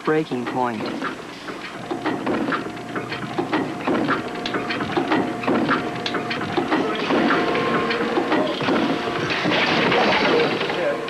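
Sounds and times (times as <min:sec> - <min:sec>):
testing machine clattering: 0:00.0 - 0:11.0.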